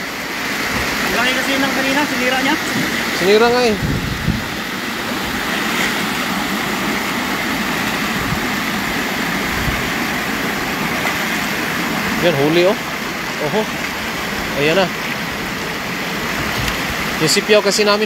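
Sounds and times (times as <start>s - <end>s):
river water rushing over weir: 0.0s - 18.0s
person wading through water: 2.1s - 17.2s.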